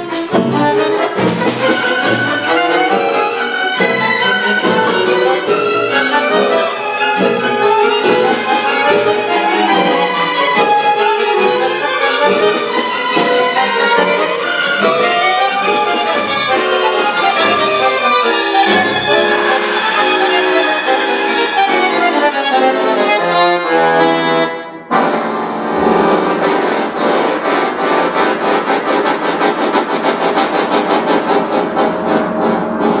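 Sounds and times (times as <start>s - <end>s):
violins playing quick notes: 0.0s - 27.3s, 30.0s - 33.0s
accordion: 0.0s - 33.0s
chamber orchestra playing: 0.0s - 33.0s.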